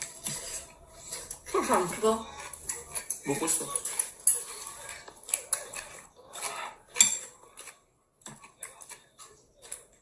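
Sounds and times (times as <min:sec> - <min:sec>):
cutlery clinking against dishes: 0:00.0 - 0:10.0.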